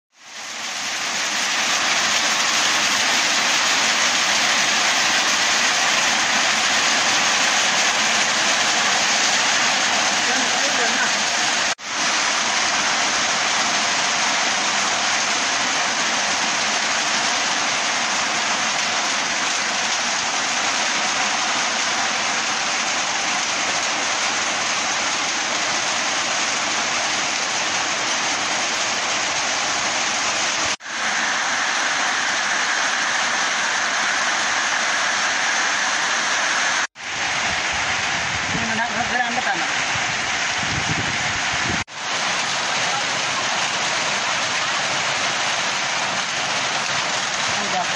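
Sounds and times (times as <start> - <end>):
heavy rain on leaves: 0.1 - 47.9.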